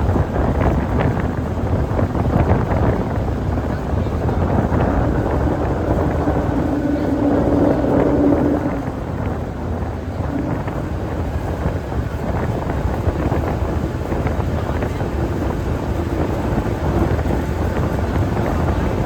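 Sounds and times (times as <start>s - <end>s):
boat engine running: 0.0s - 19.0s
wind buffeting microphone: 0.0s - 19.0s.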